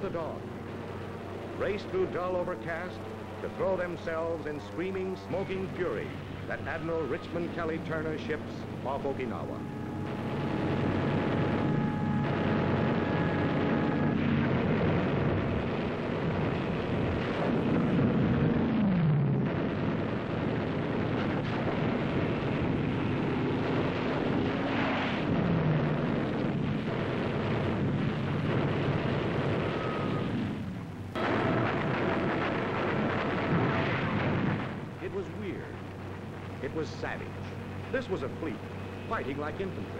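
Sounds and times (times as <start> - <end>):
aircraft engines whining down: 0.0 - 39.9
anti-aircraft gunfire: 0.0 - 39.9
explosions: 5.3 - 39.8.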